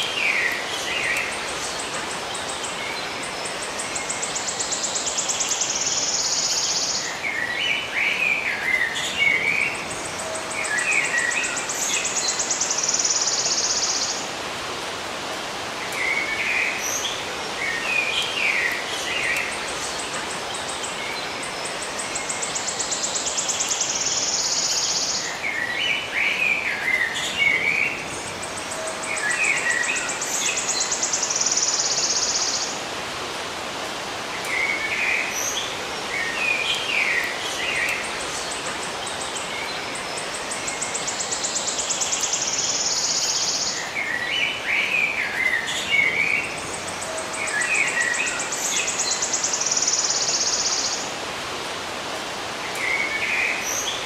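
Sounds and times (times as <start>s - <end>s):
background hiss: 0.0s - 54.0s
songbirds chirping: 0.0s - 54.0s.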